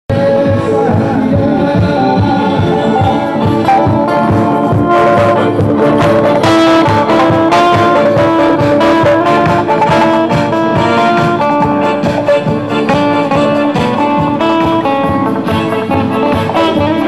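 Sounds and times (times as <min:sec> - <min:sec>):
instrumental music with steady beat: 0:00.1 - 0:17.0.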